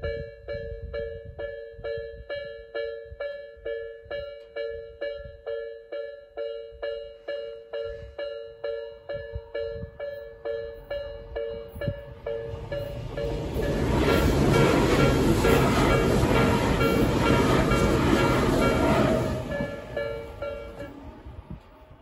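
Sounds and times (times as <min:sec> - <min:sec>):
level crossing warning bell: 0:00.0 - 0:21.1.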